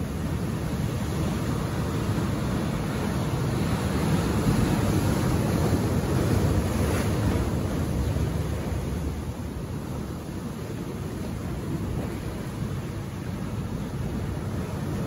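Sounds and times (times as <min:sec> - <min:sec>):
ocean waves crashing on rocks: 0:00.0 - 0:15.0.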